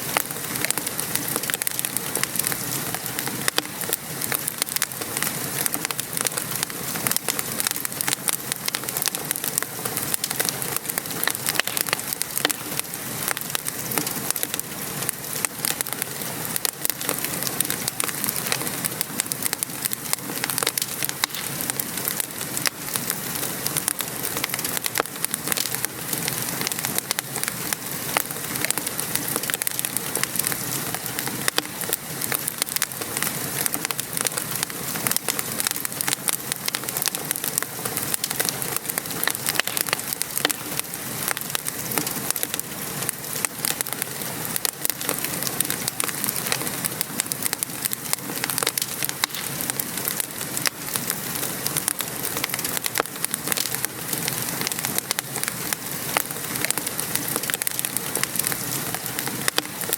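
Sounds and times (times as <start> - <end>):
rain hissing: 0.0 - 59.9
wood fire crackling and popping: 0.0 - 59.9.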